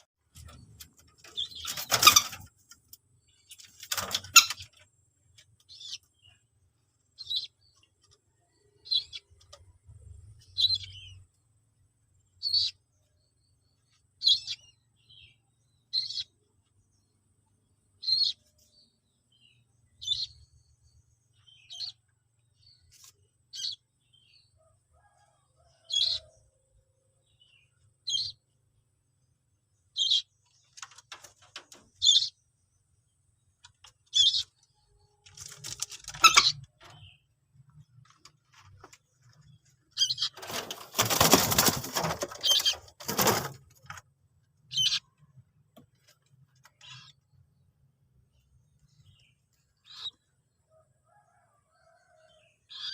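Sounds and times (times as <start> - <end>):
bird chick high-pitched peeps: 0.0 - 11.4, 12.2 - 17.2, 17.9 - 28.6, 29.8 - 32.7, 33.5 - 47.7, 48.4 - 52.9.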